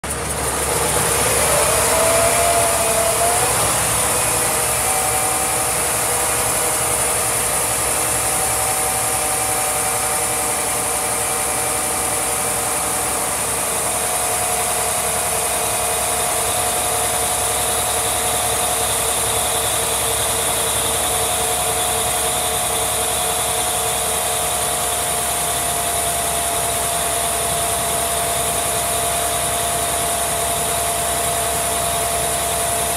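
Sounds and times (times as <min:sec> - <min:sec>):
diesel engine idling: 0:00.0 - 0:32.9
engine whine: 0:00.0 - 0:32.9.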